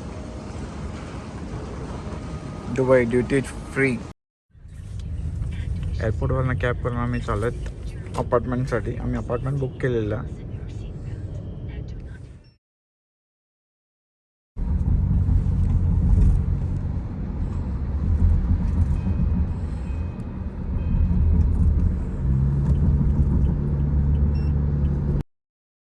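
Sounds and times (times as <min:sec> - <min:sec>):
car engine and road noise: 0:00.0 - 0:12.6, 0:14.6 - 0:25.2.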